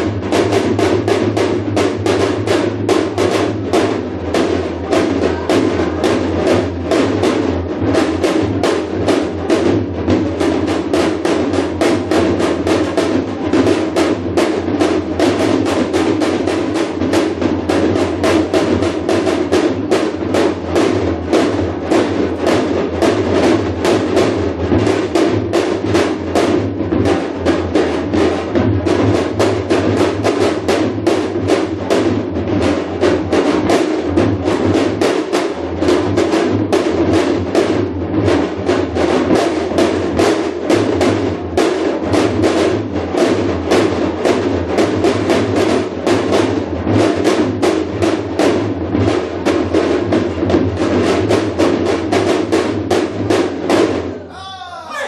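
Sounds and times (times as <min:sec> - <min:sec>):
hourglass drum strokes: 0:00.0 - 0:45.6.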